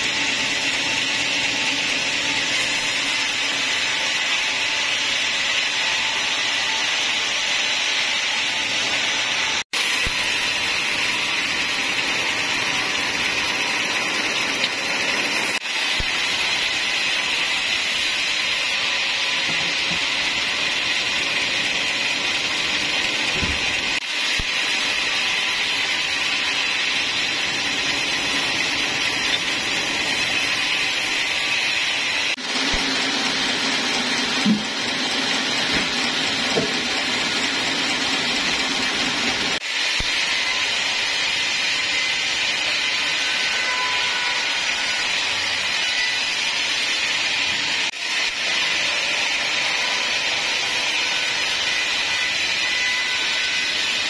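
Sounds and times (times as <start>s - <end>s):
band saw blade whining: 0.0s - 54.0s.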